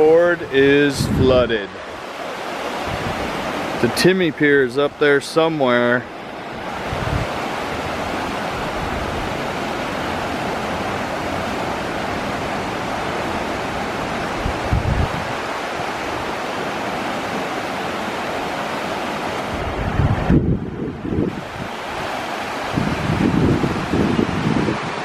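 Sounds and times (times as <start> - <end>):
floodwater rushing: 0.0 - 25.0
wind gust on microphone: 0.0 - 25.0.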